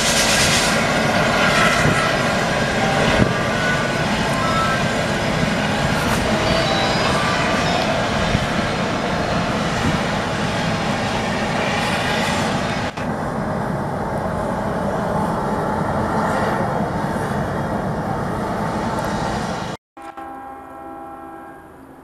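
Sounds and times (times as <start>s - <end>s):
train rumbling close by: 0.0s - 22.0s.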